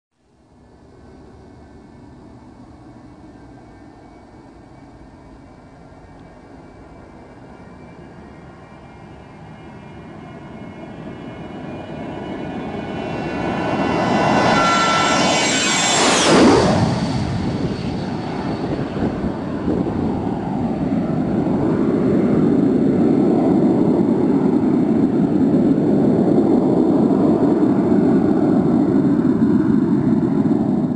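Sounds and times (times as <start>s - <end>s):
jet engines roaring and whining: 0.4s - 30.9s.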